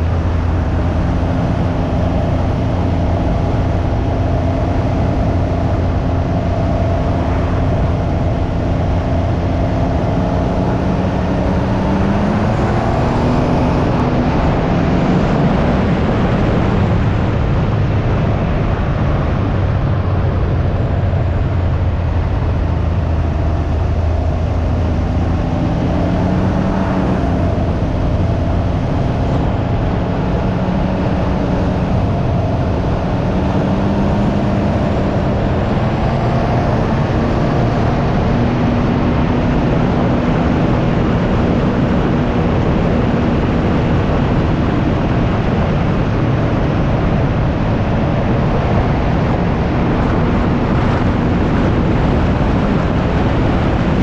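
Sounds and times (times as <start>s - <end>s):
engine running under way: 0.0s - 54.0s
wind rushing over microphone: 0.0s - 54.0s.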